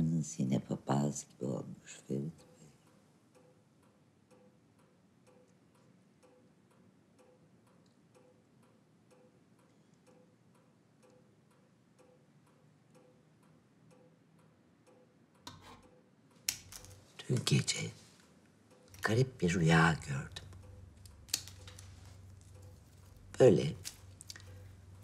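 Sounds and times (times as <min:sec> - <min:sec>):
clock ticking faintly: 0:00.5 - 0:16.5, 0:17.2 - 0:25.0.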